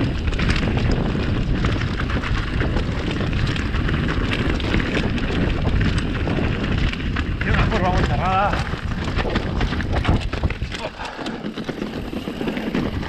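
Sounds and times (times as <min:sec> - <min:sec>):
bike clicking and rattling: 0:00.0 - 0:13.0
tyre noise: 0:00.0 - 0:13.0
wind buffeting microphone: 0:00.0 - 0:13.0.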